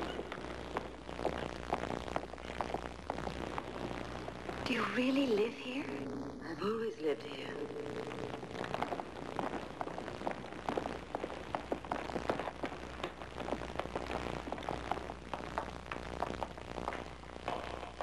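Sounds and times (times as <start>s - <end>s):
film soundtrack crackling: 0.0s - 18.0s
steady low hum: 0.0s - 18.0s.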